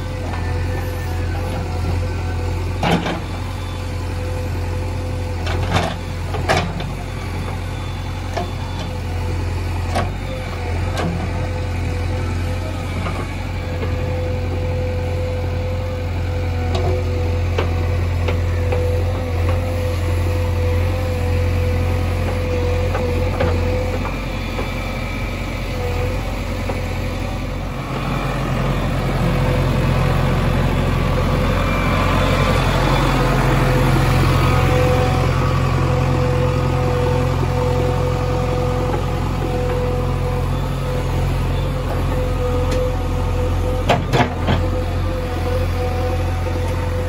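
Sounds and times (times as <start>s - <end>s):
backhoe diesel engine: 0.0s - 47.0s.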